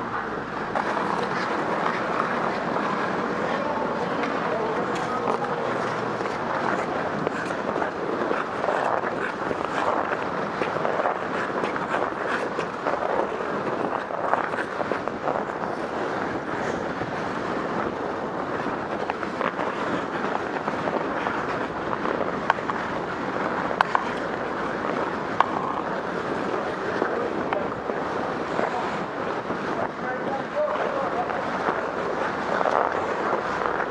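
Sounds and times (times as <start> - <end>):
skates scraping on ice: 0.6 - 33.9.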